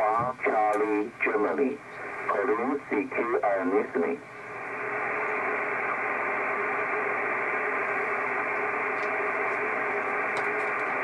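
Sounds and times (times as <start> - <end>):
radio band noise hiss: 0.0 - 11.0.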